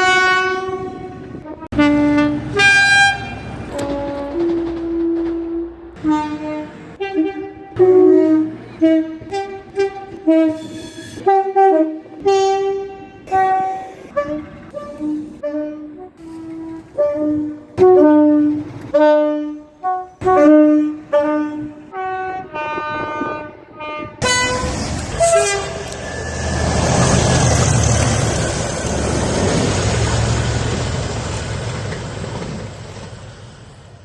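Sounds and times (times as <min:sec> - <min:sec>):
train horn blasts: 0:00.0 - 0:29.8
train passing rumble: 0:00.0 - 0:34.0.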